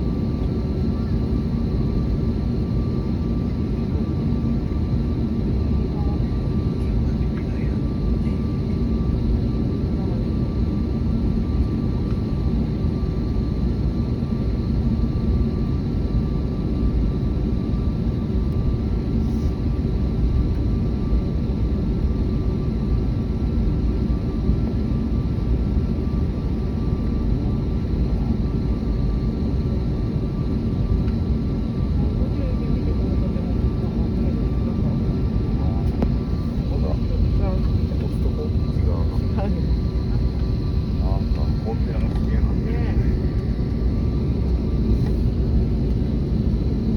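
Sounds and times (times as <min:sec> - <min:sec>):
jet airliner rumble: 0:00.0 - 0:46.9.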